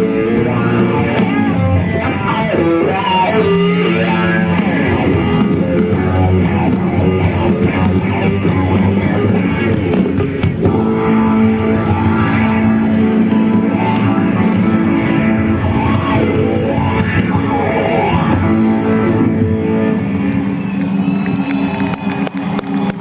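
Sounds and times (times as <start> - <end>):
guitar-led rock music: 0.0 - 23.0.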